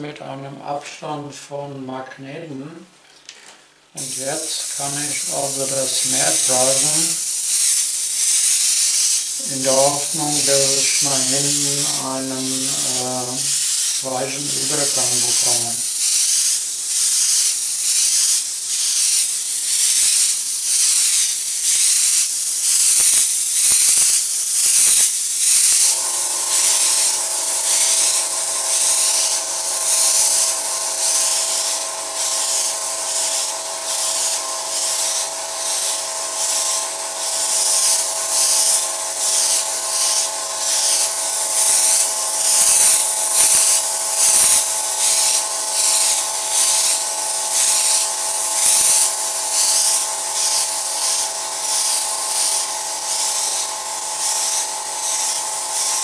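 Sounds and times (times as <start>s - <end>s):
steady hum: 0.0s - 16.0s, 22.1s - 35.9s, 36.5s - 51.7s
airbrush air hiss: 3.9s - 56.0s.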